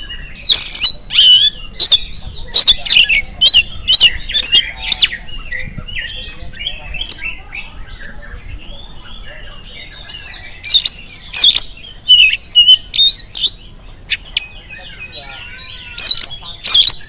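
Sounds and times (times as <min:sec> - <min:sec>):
bird singing whistled notes: 0:00.0 - 0:17.0.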